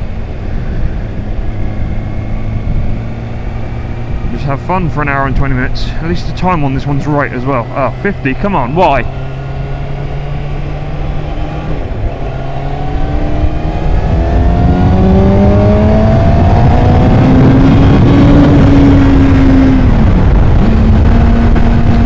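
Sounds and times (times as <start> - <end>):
wind noise over microphone: 0.0 - 7.3, 8.5 - 22.0
motorcycle engine accelerating: 0.0 - 22.0.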